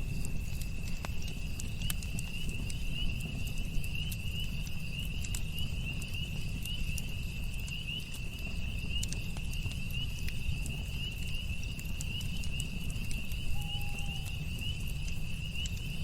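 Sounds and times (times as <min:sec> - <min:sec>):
campfire crackling: 0:00.0 - 0:16.0
crickets trilling: 0:00.0 - 0:16.0.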